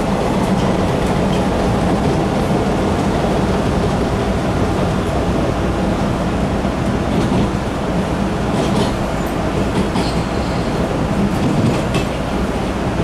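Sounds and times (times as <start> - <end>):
subway car wheels rumbling on track: 0.0 - 13.0.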